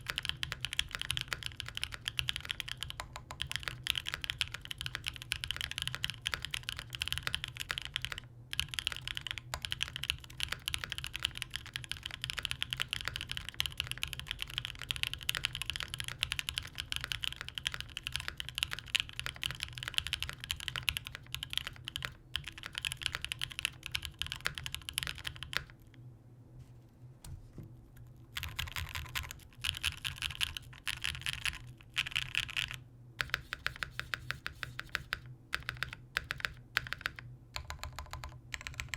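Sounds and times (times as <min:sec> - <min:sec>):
mechanical keyboard typing: 0:00.0 - 0:25.9, 0:28.3 - 0:38.9
rapid repeated keypresses: 0:00.0 - 0:25.9, 0:28.3 - 0:38.9.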